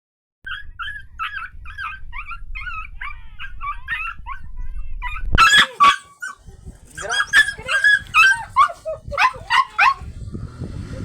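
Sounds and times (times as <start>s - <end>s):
dog yelping and whimpering: 0.5s - 6.4s, 7.0s - 10.1s.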